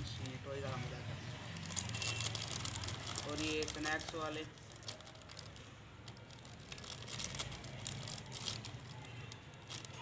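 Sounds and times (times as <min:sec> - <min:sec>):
plastic packet crinkling: 0:01.6 - 0:10.0.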